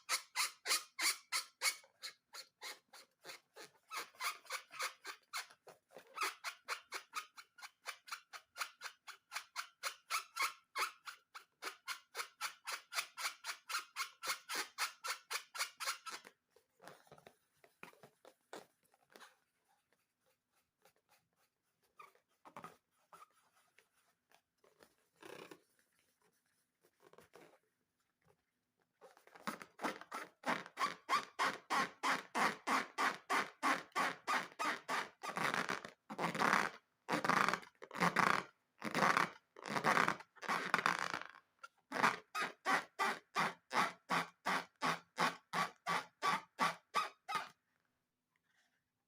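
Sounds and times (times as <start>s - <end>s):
squishy squeaks of slime and balloons: 0.0s - 27.6s, 29.0s - 41.3s.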